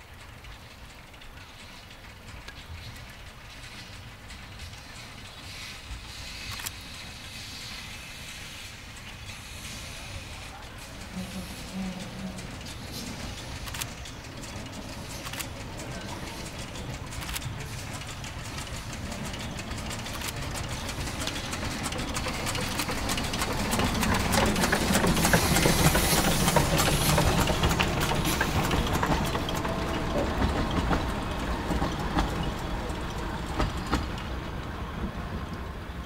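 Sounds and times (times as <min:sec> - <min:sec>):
steam train passing: 0:00.0 - 0:36.0
wheels clicking over rails: 0:00.0 - 0:36.0.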